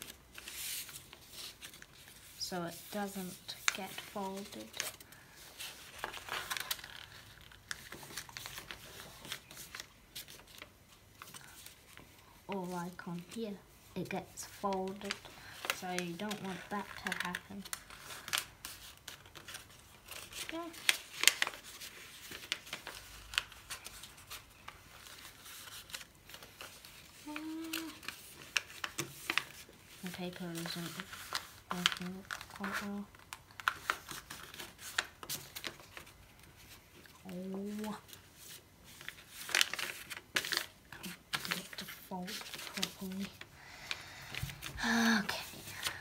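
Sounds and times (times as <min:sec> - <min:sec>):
paper rustling and crinkling: 0:00.0 - 0:46.0.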